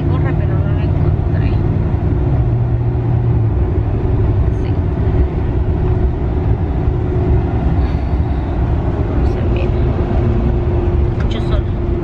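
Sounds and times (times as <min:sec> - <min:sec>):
vehicle road and engine hum: 0:00.0 - 0:12.0.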